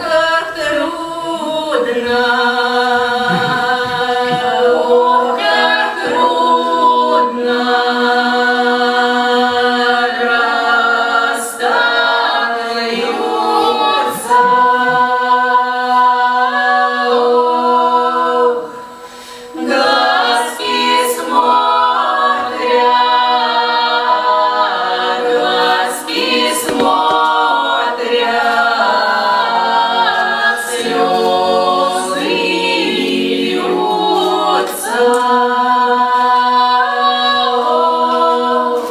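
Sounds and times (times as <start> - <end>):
choir singing a cappella: 0.0 - 38.9.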